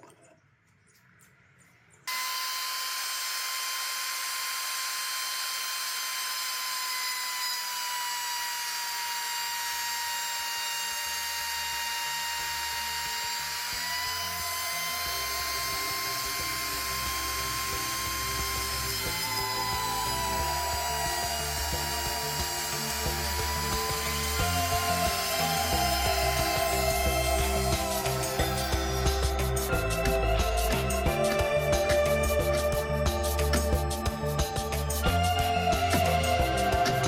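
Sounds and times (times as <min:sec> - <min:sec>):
low rumble of router cutting: 0:02.1 - 0:37.0
router whining: 0:02.1 - 0:37.0.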